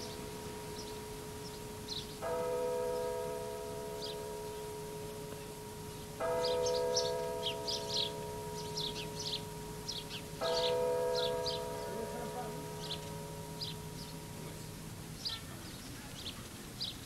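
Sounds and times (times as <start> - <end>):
large bell tolling: 0.0 - 14.9.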